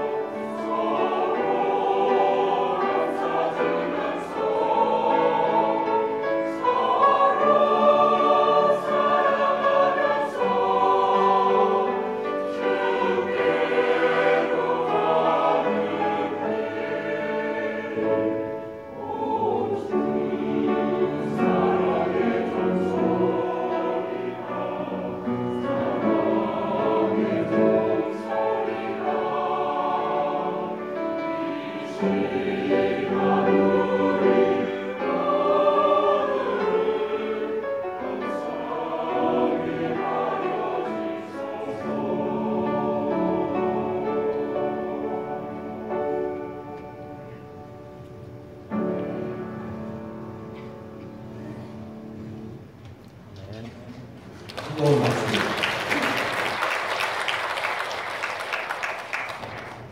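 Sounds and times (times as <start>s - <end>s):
church choir singing a hymn: 0.0s - 52.8s.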